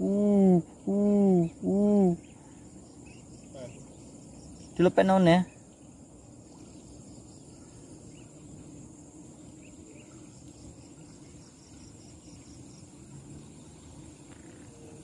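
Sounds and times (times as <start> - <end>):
insect chirping in quick pulses: 0.0 - 15.0
insects trilling: 0.0 - 15.0.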